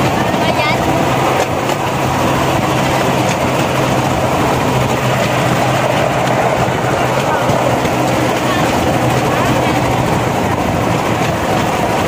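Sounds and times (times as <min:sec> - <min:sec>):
trolley wheels rumbling on rails: 0:00.0 - 0:12.0.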